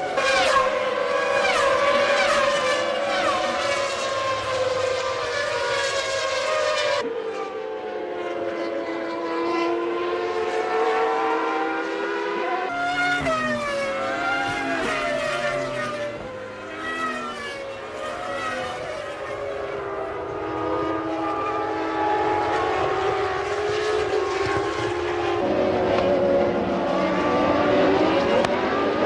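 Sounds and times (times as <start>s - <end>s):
racing car engines at high revs: 0.0s - 29.0s.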